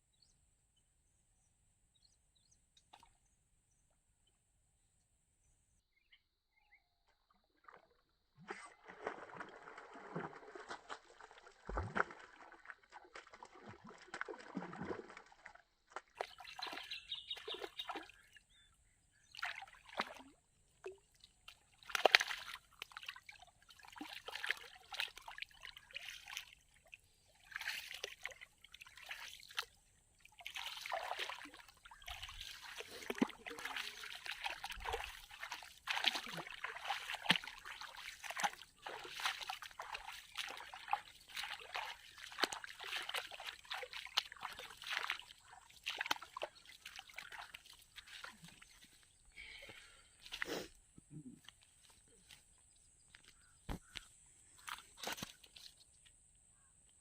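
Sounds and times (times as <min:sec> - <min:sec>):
water splashing and sloshing: 0:07.4 - 0:50.7, 0:51.4 - 0:55.8.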